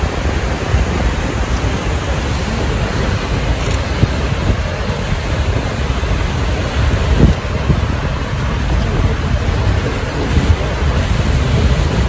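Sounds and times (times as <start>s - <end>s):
waterfall roaring: 0.0s - 12.0s
wind buffeting microphone: 0.0s - 12.0s.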